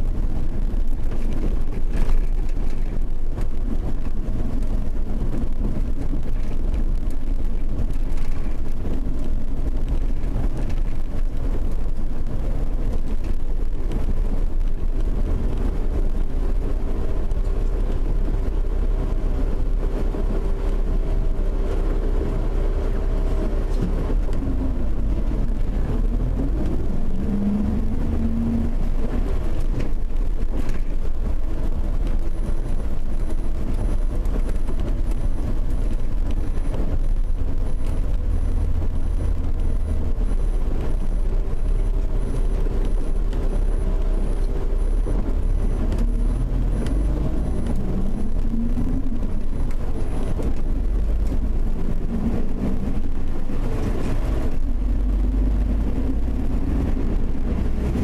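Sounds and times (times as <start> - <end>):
car engine accelerating: 0.0 - 58.0
tyre road noise: 0.0 - 58.0.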